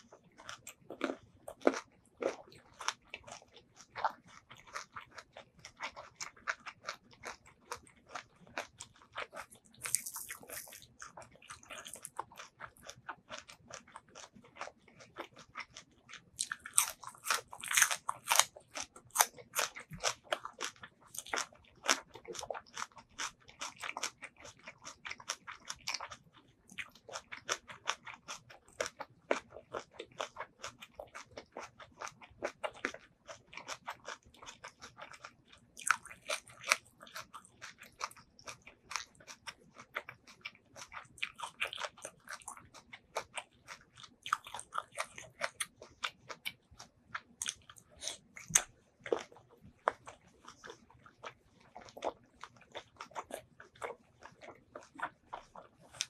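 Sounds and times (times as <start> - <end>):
crunchy vegetable chewing: 0.0 - 56.0.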